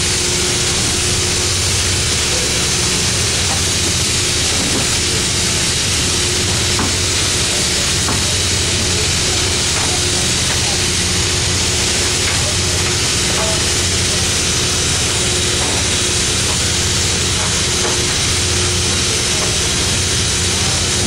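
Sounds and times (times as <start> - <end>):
machinery drone with hiss: 0.0 - 21.0.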